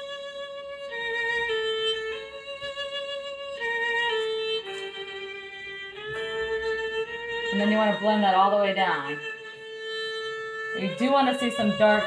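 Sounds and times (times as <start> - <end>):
slow violin melody: 0.0 - 12.0.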